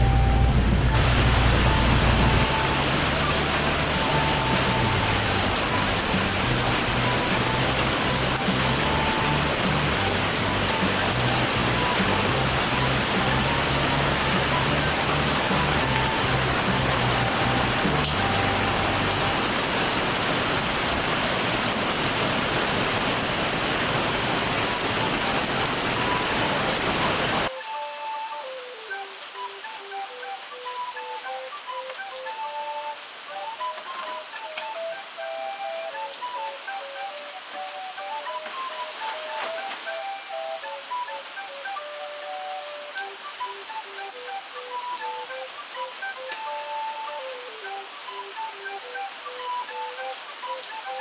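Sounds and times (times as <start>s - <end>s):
background music: 0.0s - 19.7s, 24.6s - 51.0s
heavy rain pouring: 0.0s - 51.0s.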